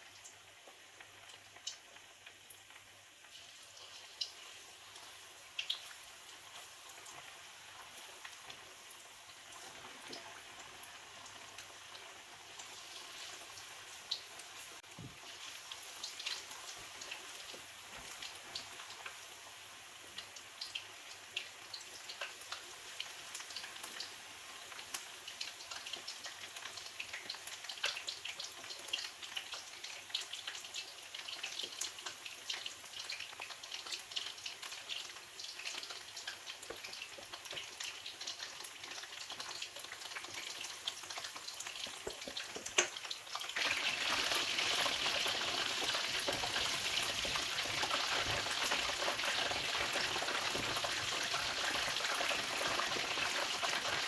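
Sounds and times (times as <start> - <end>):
chicken frying in hot oil: 0.0 - 54.0.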